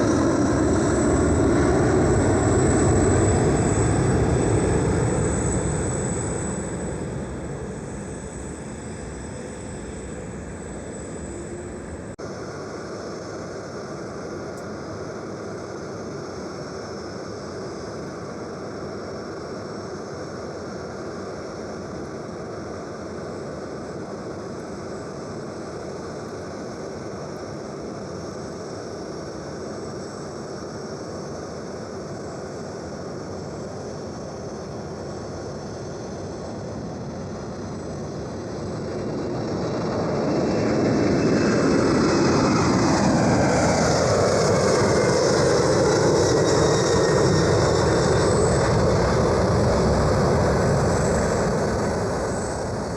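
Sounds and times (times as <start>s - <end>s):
jet aircraft engines: 0.0s - 52.9s.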